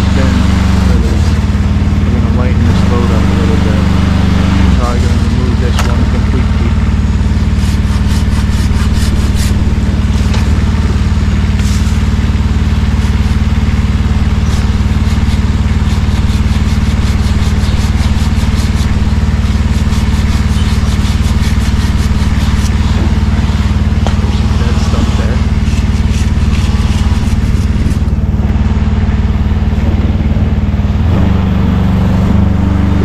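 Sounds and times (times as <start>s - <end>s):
handsaw cutting wood: 0.0s - 1.4s, 2.2s - 28.4s
truck engine running: 0.0s - 33.0s.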